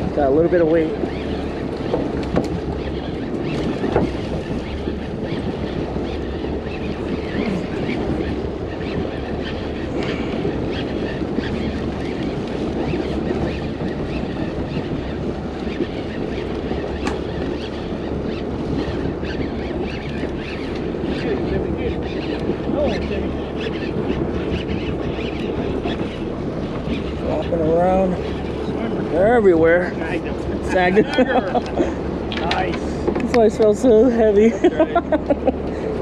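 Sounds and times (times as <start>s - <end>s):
boat engine rumble: 0.0s - 36.0s
wind buffeting microphone: 0.0s - 36.0s.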